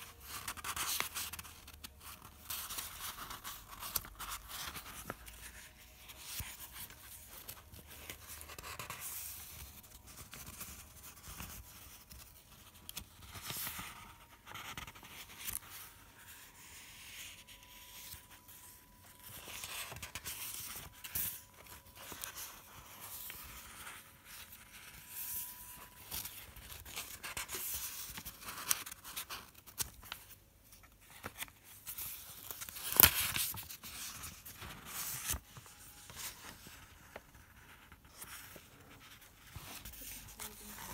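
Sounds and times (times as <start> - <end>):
paper pages rustling: 0.0 - 40.9.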